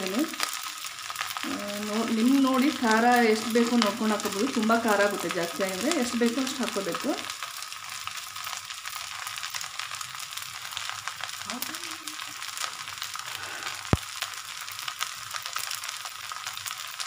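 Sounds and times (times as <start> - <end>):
rice sizzling in hot oil: 0.0 - 17.0.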